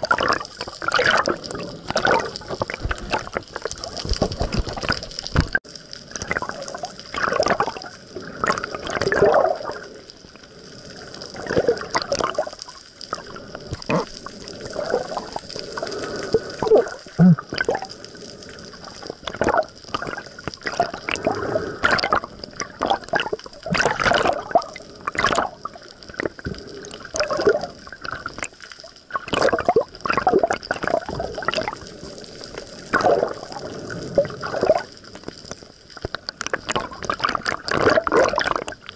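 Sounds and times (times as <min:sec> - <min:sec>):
water sloshing and splashing: 0:00.0 - 0:38.9.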